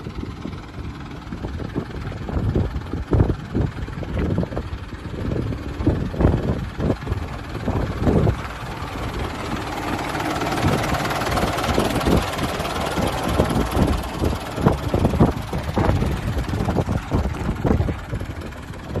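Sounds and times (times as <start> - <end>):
diesel engine idling: 0.0 - 19.0
irregular low thumps: 0.4 - 19.0.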